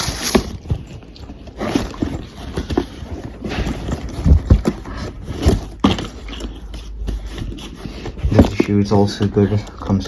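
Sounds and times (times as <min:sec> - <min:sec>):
packaging rustling: 0:00.0 - 0:10.0
knocks and thumps: 0:00.4 - 0:09.0.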